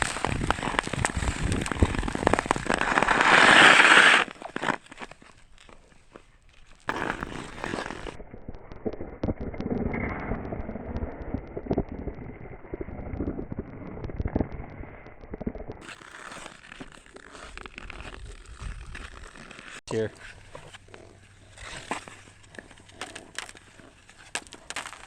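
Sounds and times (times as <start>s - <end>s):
ice crackling and popping: 0.0s - 25.0s
ice skates gliding: 0.0s - 25.0s.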